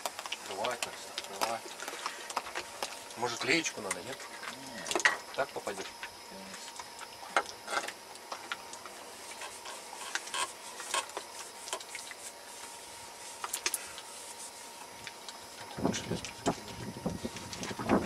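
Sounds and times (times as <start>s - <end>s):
faint steady tone: 1.2s - 18.0s.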